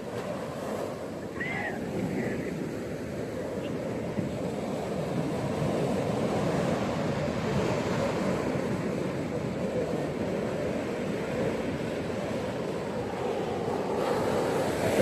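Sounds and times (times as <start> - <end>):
ocean waves washing on beach: 0.0 - 15.0.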